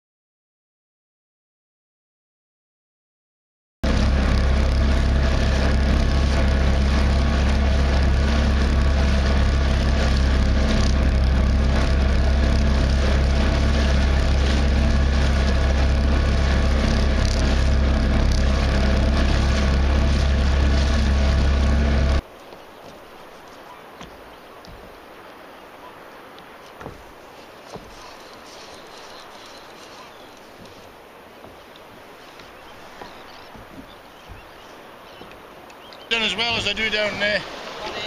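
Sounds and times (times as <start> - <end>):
boat engine running: 3.8 - 38.0
water and wind rushing: 3.8 - 38.0.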